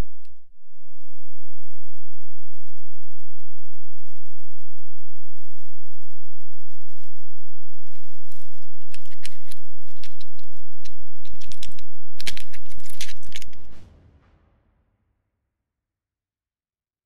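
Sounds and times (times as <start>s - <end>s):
steady low hum: 0.0s - 14.1s.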